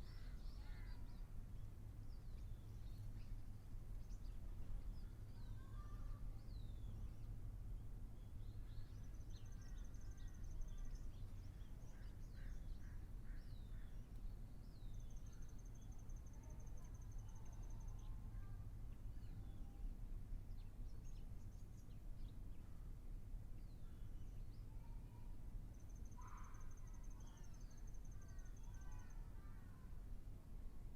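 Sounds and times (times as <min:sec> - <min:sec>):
low background rumble: 0:00.0 - 0:30.9.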